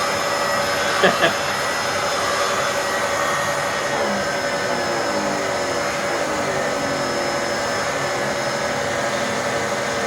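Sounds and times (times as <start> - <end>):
vacuum turbo tool whining: 0.0 - 10.0.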